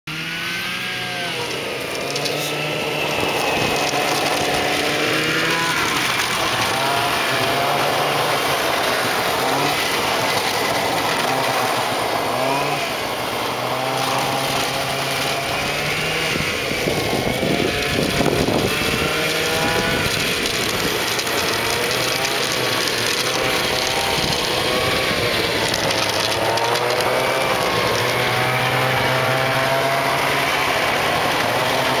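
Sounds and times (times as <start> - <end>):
snowmobile engine running: 0.1 - 32.0.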